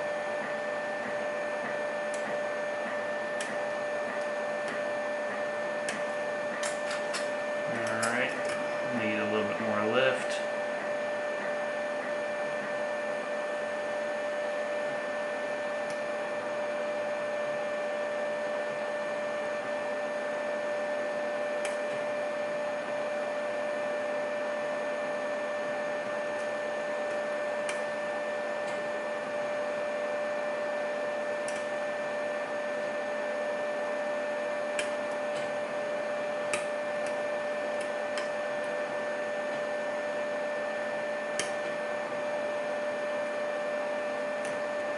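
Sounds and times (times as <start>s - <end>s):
steady background hum: 0.0s - 17.6s, 19.8s - 44.9s.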